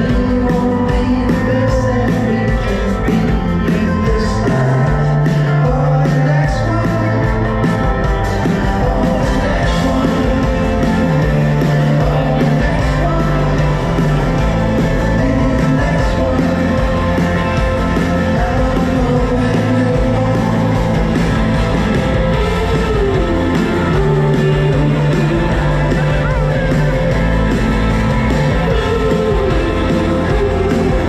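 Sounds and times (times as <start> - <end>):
live rock band playing: 0.0 - 31.0
person singing: 0.0 - 31.0.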